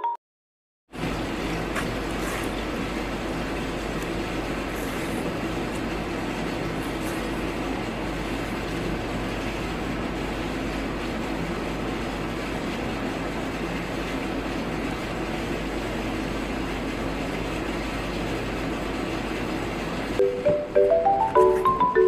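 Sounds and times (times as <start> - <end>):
washing machine spinning: 0.9 - 22.0.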